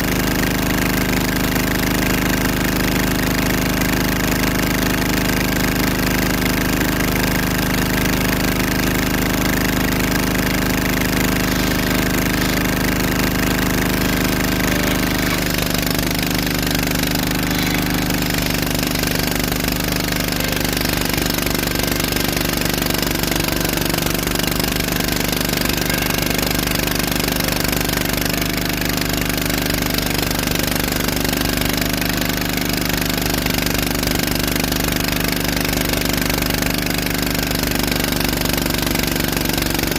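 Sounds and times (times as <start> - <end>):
engine knocking under load: 0.0 - 39.9.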